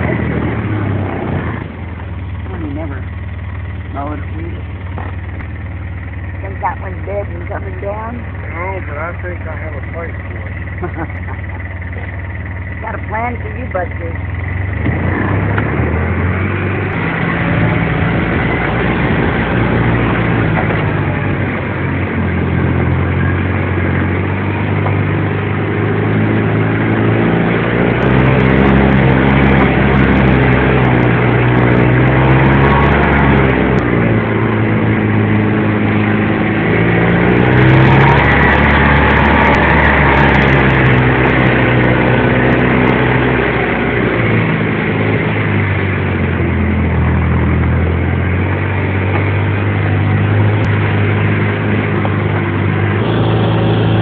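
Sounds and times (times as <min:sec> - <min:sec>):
car engine driving slowly: 0:00.0 - 0:54.0
steady rumbling noise: 0:00.0 - 0:54.0.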